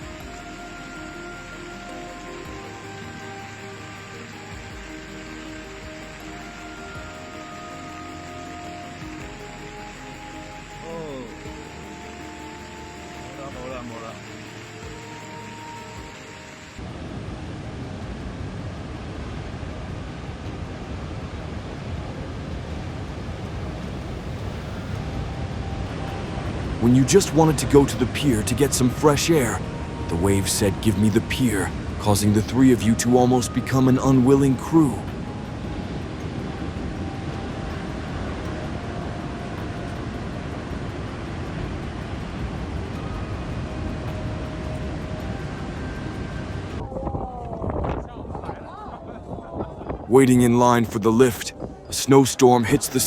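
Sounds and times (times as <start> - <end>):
heavy surf: 0.0 - 53.0
storm waves breaking: 0.0 - 53.0
wind blowing across microphone: 0.0 - 53.0.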